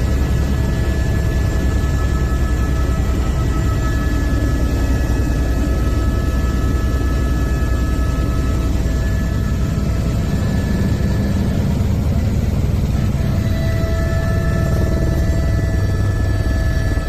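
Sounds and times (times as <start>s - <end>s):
helicopter rotor and engine rumble: 0.0s - 17.0s
thin steady whine: 0.0s - 17.0s.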